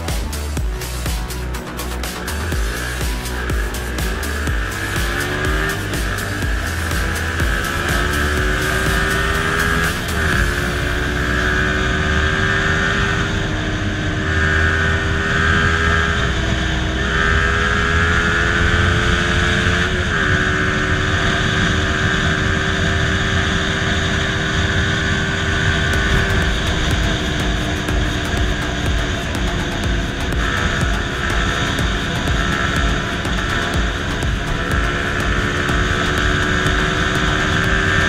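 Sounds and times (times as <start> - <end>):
motorcycle engine pulling: 0.0 - 38.0.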